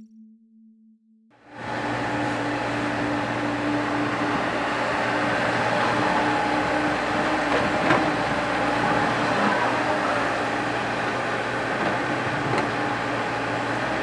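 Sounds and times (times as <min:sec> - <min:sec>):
excavator diesel engine running: 0:01.4 - 0:14.0.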